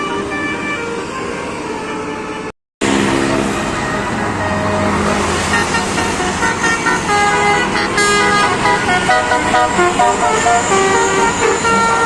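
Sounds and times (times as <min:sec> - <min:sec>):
bus horn playing a tune: 0:00.0 - 0:12.0
engine and traffic noise: 0:00.0 - 0:12.0.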